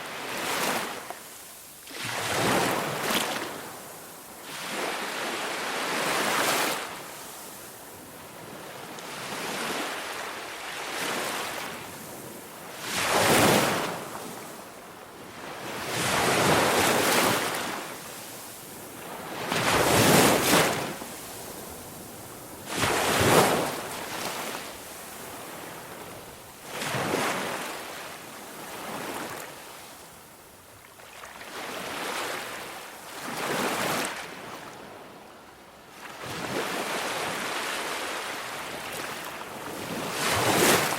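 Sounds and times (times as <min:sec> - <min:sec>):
surf washing in and out: 0:00.0 - 0:40.9.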